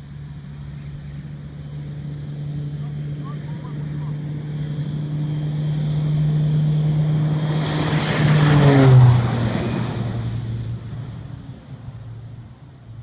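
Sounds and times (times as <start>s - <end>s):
turboprop plane passing: 0.0s - 13.0s.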